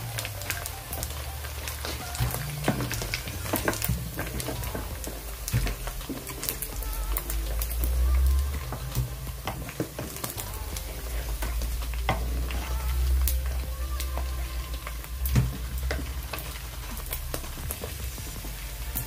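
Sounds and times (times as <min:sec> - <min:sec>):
meat sizzling in hot oil: 0:00.0 - 0:19.0
oil popping: 0:00.0 - 0:19.0
wooden spoon scraping pot: 0:00.1 - 0:19.0.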